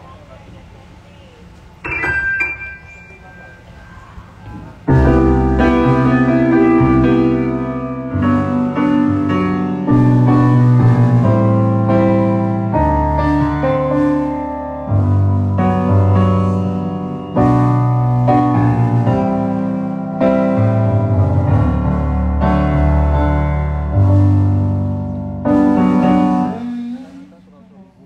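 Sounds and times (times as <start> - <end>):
keyboard piano chords: 1.8 - 28.0.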